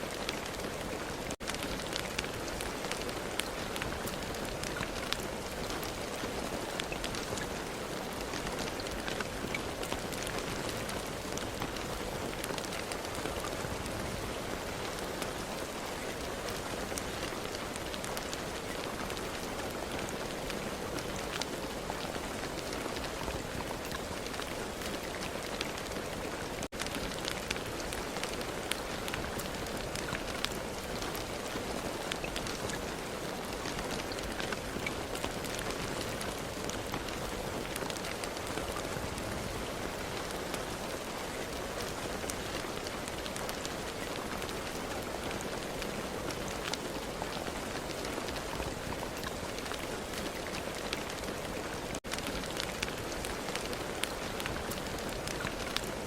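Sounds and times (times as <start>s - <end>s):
raindrop ticks: 0.0s - 56.0s
steady rain hiss: 0.0s - 56.0s.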